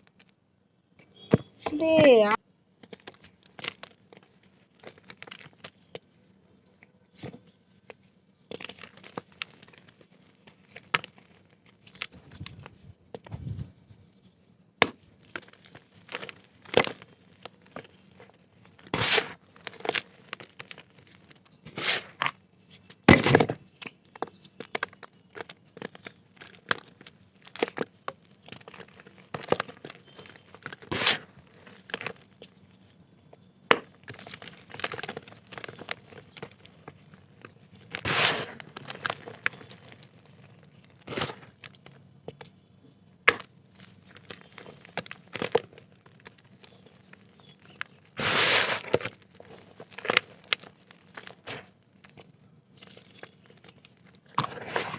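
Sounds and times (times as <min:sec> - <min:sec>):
dirt crunching and crumbling: 0:01.2 - 0:54.9.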